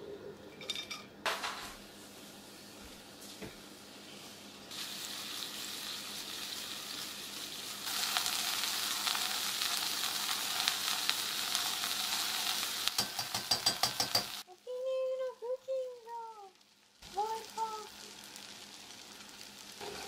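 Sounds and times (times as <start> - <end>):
vegetables sizzling in a pot: 1.3 - 20.0.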